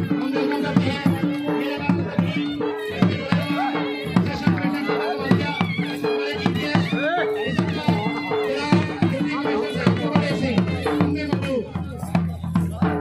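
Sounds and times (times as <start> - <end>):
crowd voices: 0.0 - 13.0
drum beating steady rhythm: 0.0 - 13.0.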